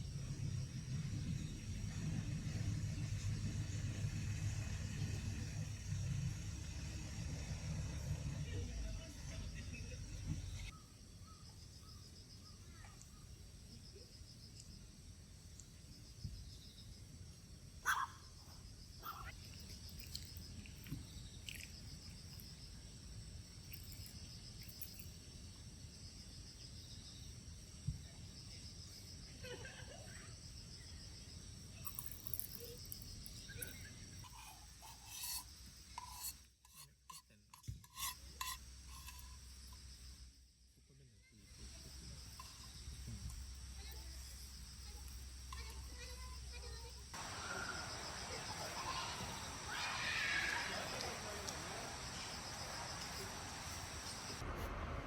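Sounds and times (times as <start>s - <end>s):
insects chirping: 0.0s - 54.8s.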